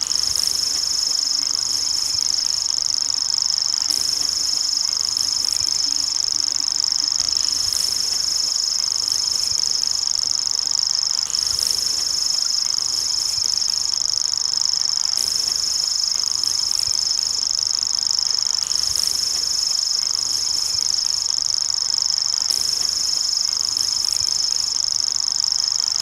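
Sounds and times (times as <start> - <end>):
bird reeling trill: 0.0 - 26.0.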